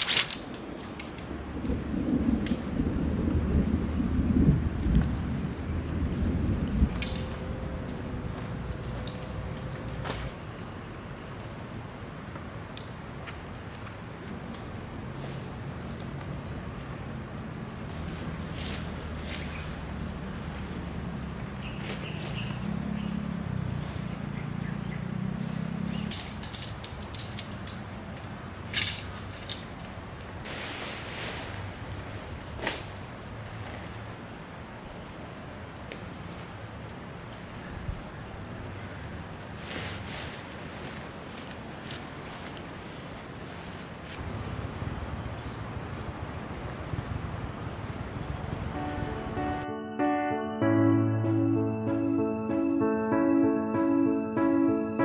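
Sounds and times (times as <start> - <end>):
crickets trilling: 0.0 - 49.7.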